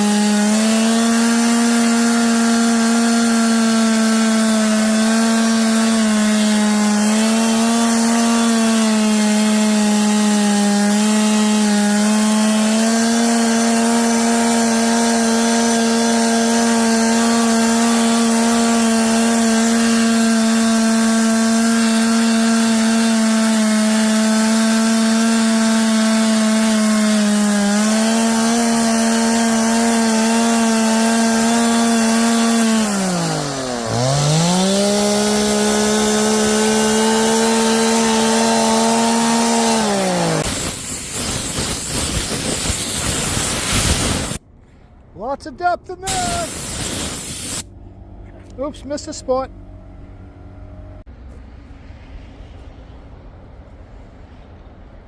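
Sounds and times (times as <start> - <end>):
chainsaw cutting wood: 0.0 - 44.4, 46.0 - 47.7.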